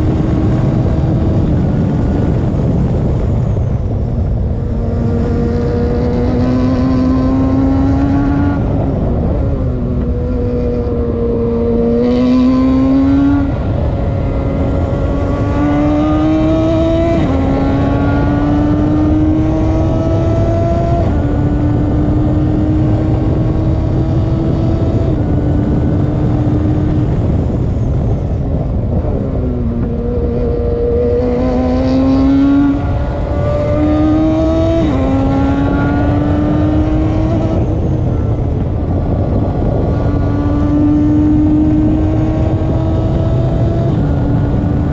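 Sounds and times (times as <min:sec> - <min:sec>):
race car engine revving: 0:04.5 - 0:27.7, 0:29.6 - 0:44.9.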